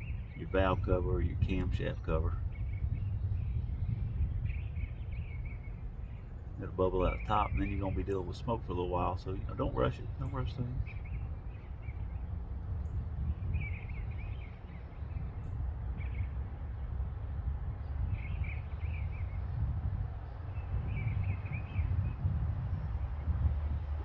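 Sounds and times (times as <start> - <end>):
low outdoor rumble: 0.0 - 24.0
small birds chirping: 0.0 - 24.0.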